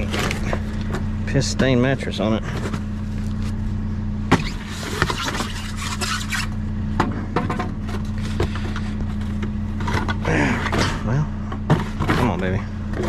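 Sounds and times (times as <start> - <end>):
junk rustling and clinking: 0.0 - 13.0
low engine hum: 0.0 - 13.0.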